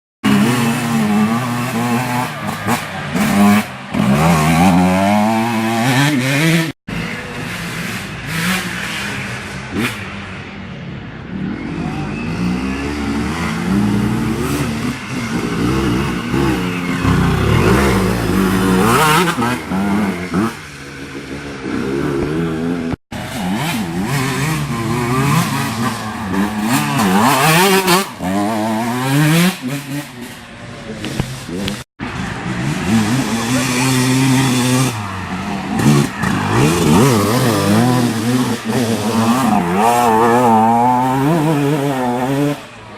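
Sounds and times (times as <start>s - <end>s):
motocross motorcycles revving: 0.2s - 10.6s, 11.3s - 42.9s.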